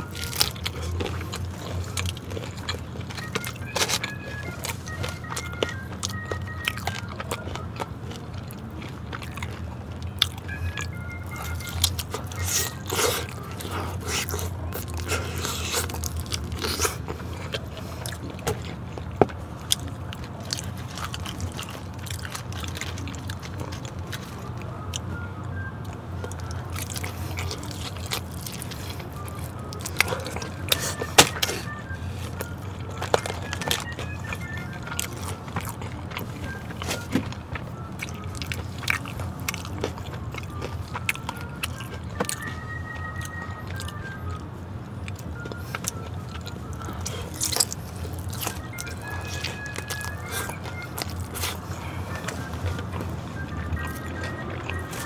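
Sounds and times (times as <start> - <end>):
crunchy bites and chewing: 0.0 - 55.0.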